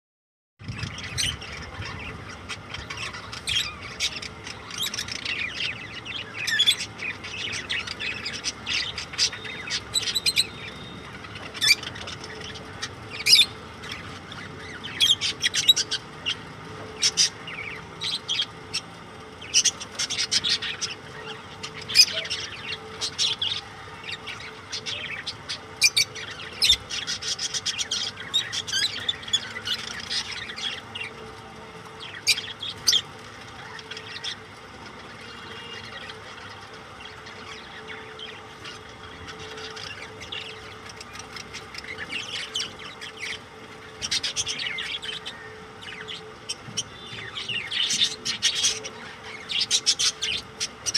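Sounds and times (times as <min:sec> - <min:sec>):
lovebirds chirping and squawking: 0:00.6 - 0:50.9.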